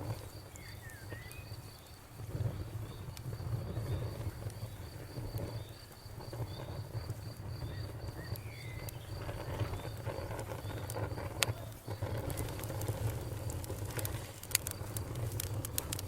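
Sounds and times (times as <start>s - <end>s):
insect chirping trill: 0.0s - 15.7s
campfire burning: 0.0s - 16.0s.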